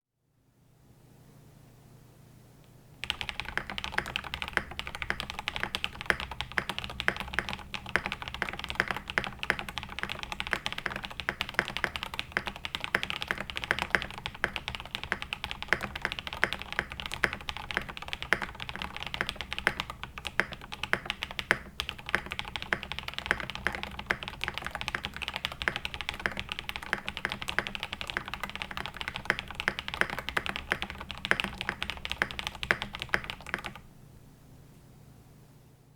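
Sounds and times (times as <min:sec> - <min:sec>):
fast typing on mechanical keyboard: 0:03.0 - 0:33.8.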